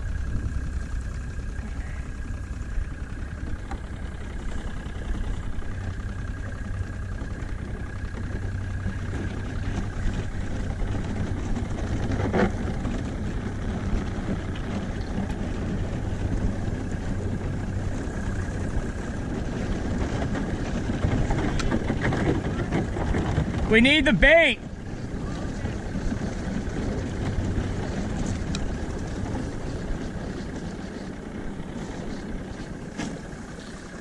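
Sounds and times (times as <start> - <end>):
boat motor humming: 0.0 - 34.0.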